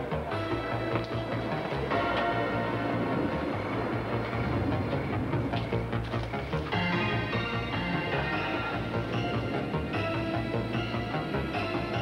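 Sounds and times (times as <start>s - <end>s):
pulsing bass line: 0.0s - 12.0s
sustained synth notes: 0.0s - 12.0s.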